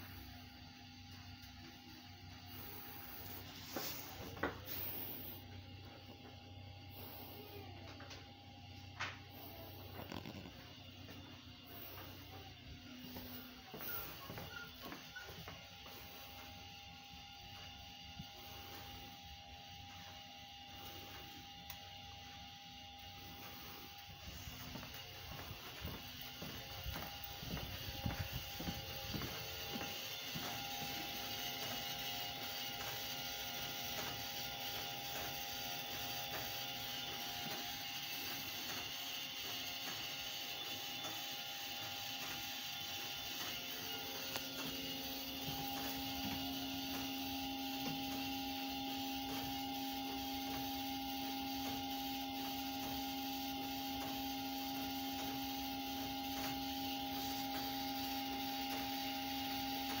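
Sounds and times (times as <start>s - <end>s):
railcar equipment humming: 0.0s - 60.0s
steady whine: 0.0s - 60.0s.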